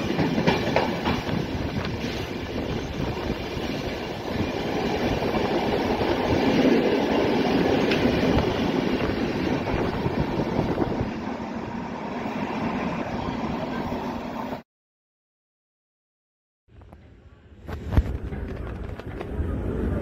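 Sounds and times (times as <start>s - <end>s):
freight train wheels on rails: 0.0s - 14.6s, 16.8s - 20.0s.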